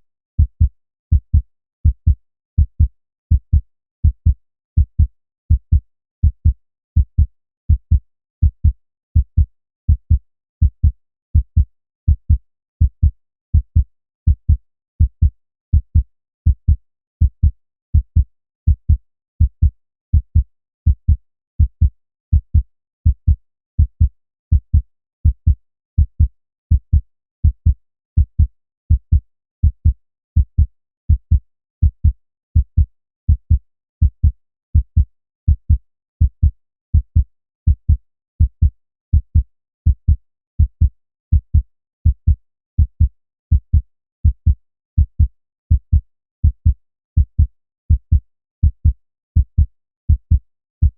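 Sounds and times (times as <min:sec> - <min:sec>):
human heartbeat: 0:00.4 - 0:50.9.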